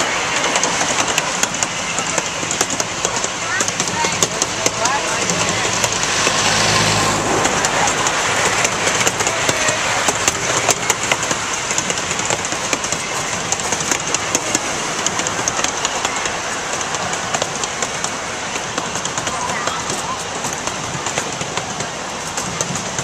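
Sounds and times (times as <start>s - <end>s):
clacks over rail joints: 0.0s - 23.0s
train wheels rumbling on rails: 0.0s - 23.0s.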